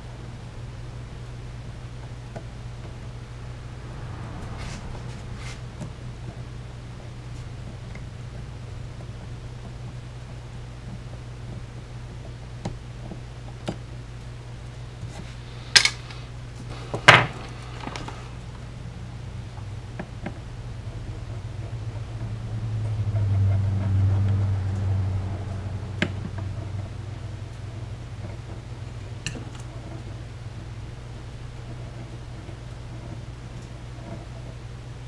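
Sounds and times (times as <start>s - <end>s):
low hum: 0.0s - 9.5s, 14.5s - 33.8s.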